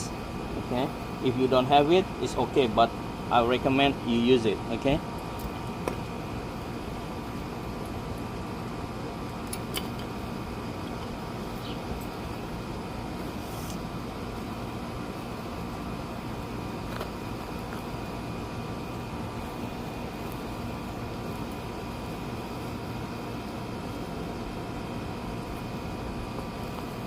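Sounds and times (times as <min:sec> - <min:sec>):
mechanical fan hum: 0:00.0 - 0:27.0.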